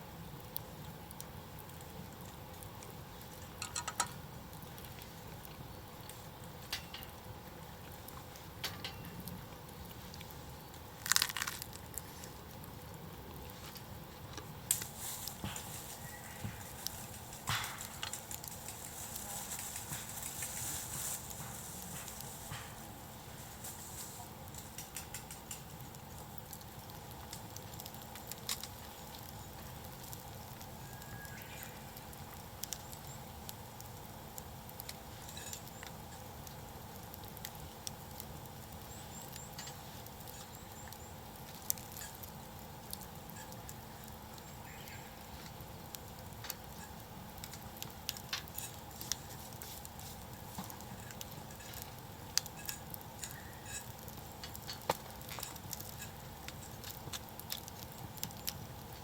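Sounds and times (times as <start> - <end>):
campfire crackling: 0.0 - 59.0
low steady hiss: 0.0 - 59.0.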